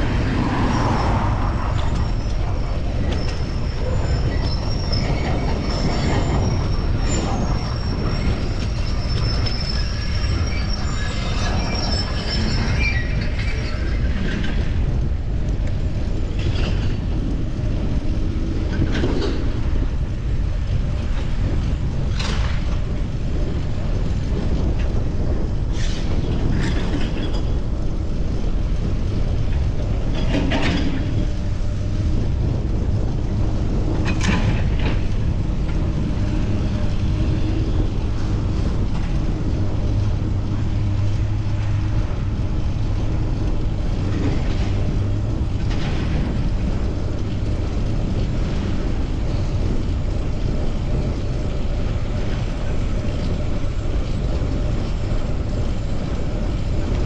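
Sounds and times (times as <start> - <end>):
low vehicle hum: 0.0 - 57.0
road noise: 0.0 - 57.0
wind rush: 0.0 - 57.0.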